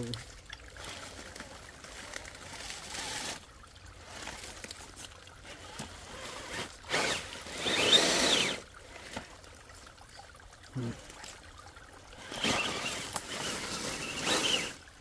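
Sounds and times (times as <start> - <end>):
toy car tires splashing in water: 0.0 - 15.0.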